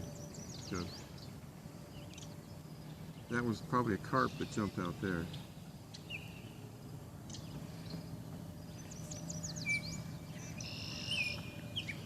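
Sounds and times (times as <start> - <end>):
blackbird chirps and calls: 0.0 - 6.6, 8.7 - 12.0
faint background hum: 0.0 - 12.0
songbirds singing: 0.0 - 12.0.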